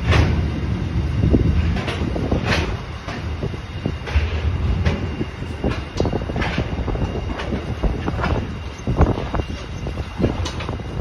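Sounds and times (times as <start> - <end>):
low rumble: 0.0 - 11.0
train wheels clacking on track: 0.0 - 11.0.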